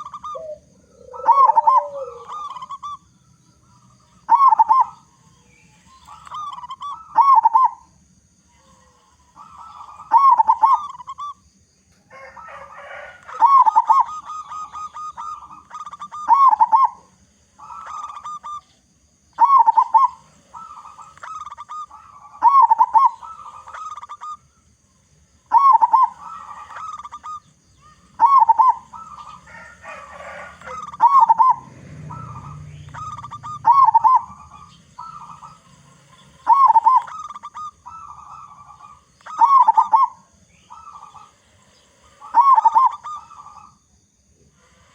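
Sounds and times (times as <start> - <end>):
dove cooing: 0.0 - 11.4, 12.1 - 44.9.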